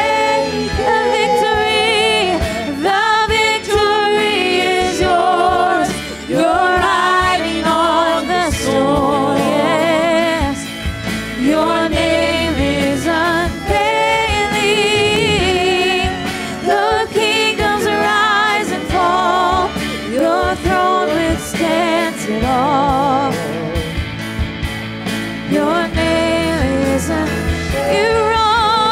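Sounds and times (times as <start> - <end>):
singers with vibrato: 0.0 - 10.7, 11.3 - 23.4, 25.5 - 28.9
worship band playing: 0.0 - 28.9.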